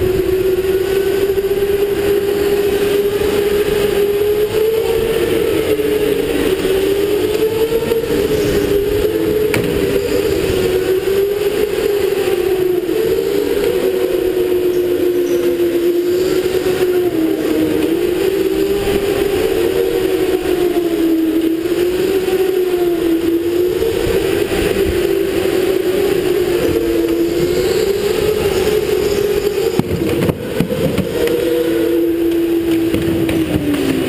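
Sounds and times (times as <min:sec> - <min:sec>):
electric go-kart motor whining: 0:00.0 - 0:34.0.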